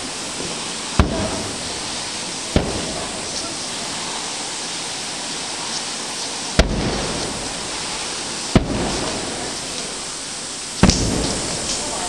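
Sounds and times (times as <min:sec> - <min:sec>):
firework shells bursting: 0:00.0 - 0:12.0
steady background noise: 0:00.0 - 0:12.0.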